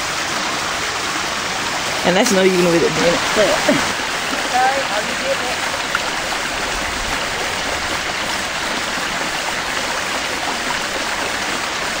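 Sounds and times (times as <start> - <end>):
creek rushing over stones: 0.0 - 12.0.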